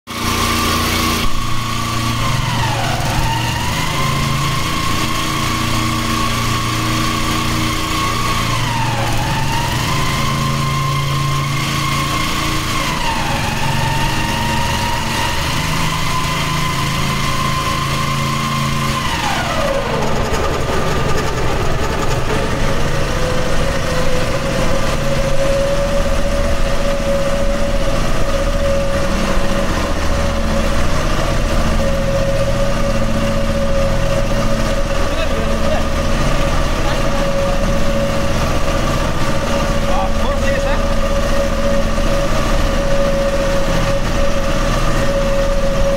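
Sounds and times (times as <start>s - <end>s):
motor-like whine: 0.1s - 45.9s.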